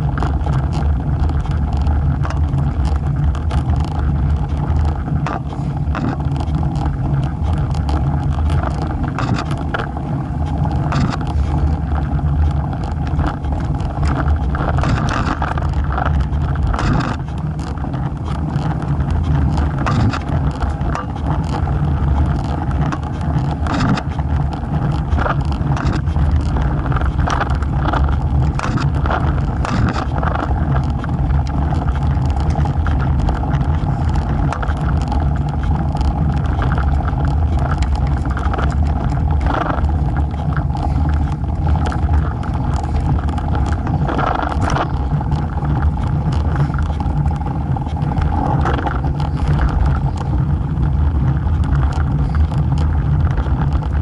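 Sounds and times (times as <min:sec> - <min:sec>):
bike clicks and rattles: 0:00.0 - 0:54.0
tyre noise on road: 0:00.0 - 0:54.0
wind rumble on microphone: 0:00.0 - 0:54.0.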